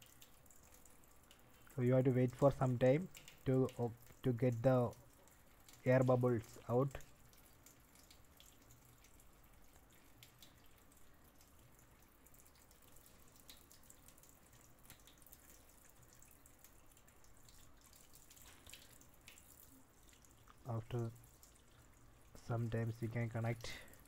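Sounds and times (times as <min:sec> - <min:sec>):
small water splashes: 0:00.0 - 0:24.0
water trickling into steel sink: 0:00.0 - 0:24.0.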